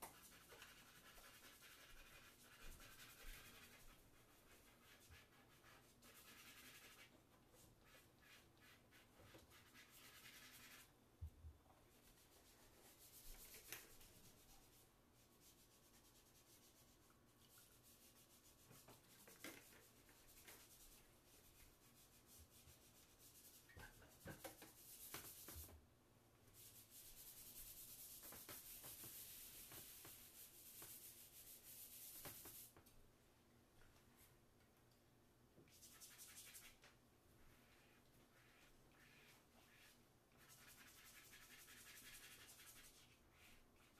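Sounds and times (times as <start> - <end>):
charcoal scratching on paper: 0.0 - 10.9, 12.0 - 25.7, 26.6 - 32.7, 35.7 - 36.8, 37.6 - 43.9.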